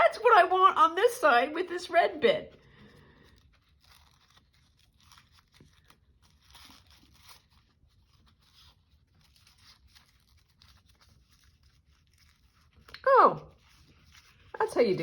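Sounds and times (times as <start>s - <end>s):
paper rustling and crinkling: 2.7s - 15.0s.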